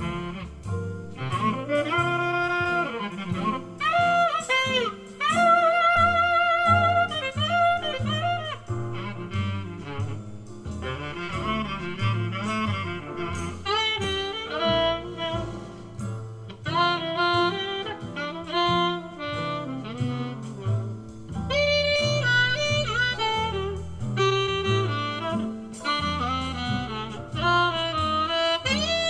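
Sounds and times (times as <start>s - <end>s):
jazz music through loudspeaker: 0.0s - 29.0s.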